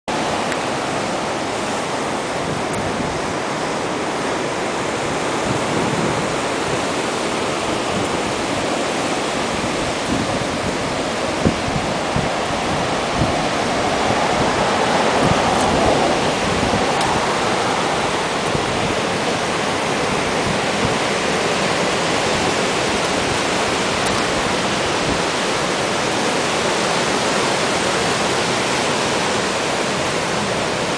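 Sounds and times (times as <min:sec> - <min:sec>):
ocean waves breaking: 0:00.1 - 0:30.9.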